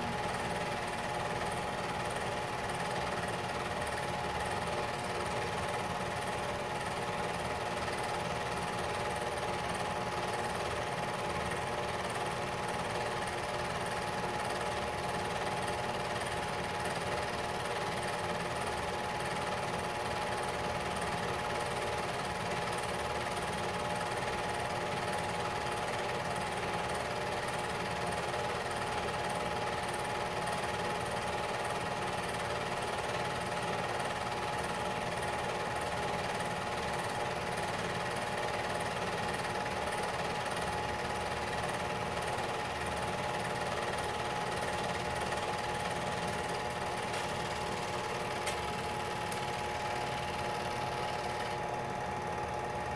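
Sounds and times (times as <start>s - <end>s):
film projector clatter: 0.0s - 52.9s
motor and fan whine: 0.0s - 52.9s.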